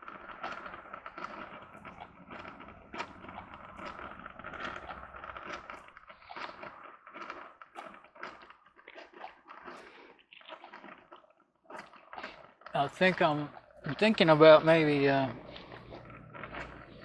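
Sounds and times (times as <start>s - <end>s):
coffee maker sputtering and gurgling: 0.0s - 17.0s.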